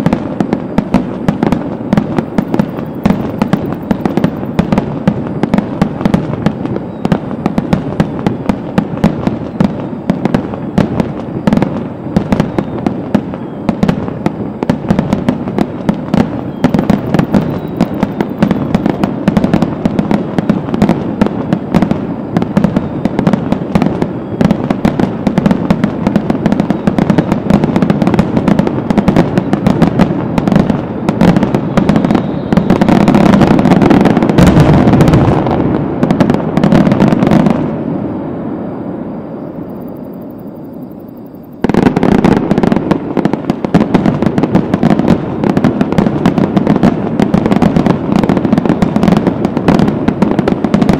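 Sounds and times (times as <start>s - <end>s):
firework bangs and crackles: 0.0s - 50.9s.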